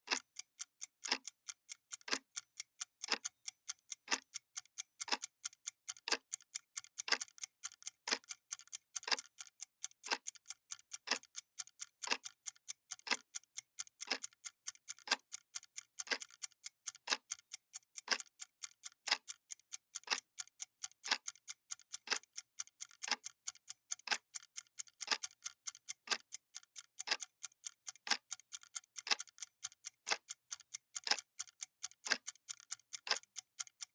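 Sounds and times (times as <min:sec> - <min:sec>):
clock ticking: 0:00.1 - 0:33.9.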